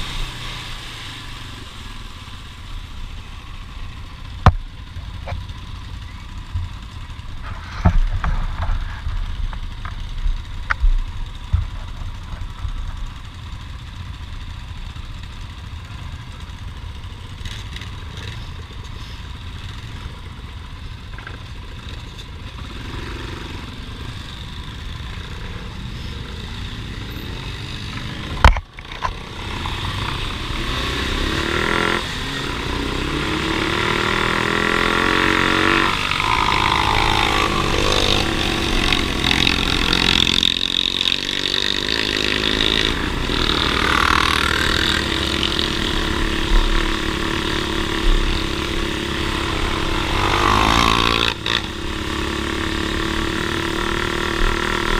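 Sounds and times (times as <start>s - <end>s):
off-road engines revving: 0.0s - 10.5s, 12.4s - 54.9s.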